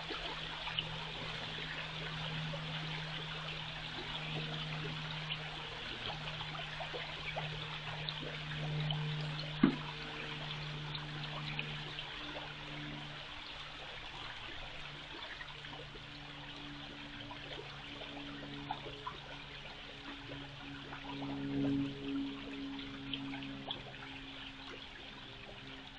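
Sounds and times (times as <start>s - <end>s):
water running and trickling: 0.0s - 25.9s.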